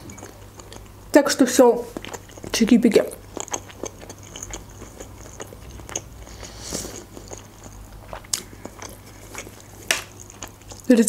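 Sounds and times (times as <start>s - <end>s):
chewing food: 0.0s - 1.0s, 1.8s - 11.0s.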